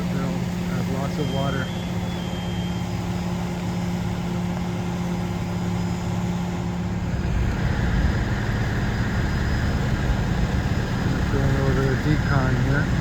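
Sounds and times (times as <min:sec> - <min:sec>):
heavy truck engines droning: 0:00.0 - 0:13.0.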